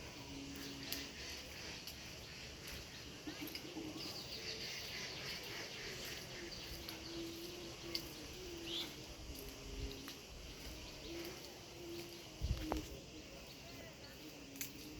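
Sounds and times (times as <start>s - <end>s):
faint bird chirps: 0.0s - 14.9s
small ticks: 0.4s - 13.6s, 14.2s - 14.9s.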